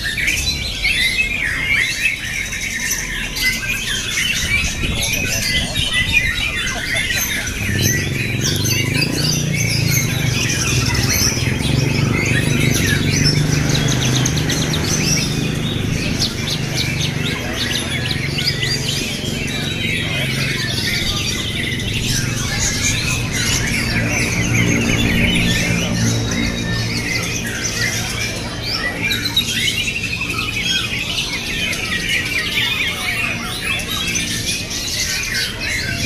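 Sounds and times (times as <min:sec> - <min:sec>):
many songbirds singing: 0:00.0 - 0:36.0.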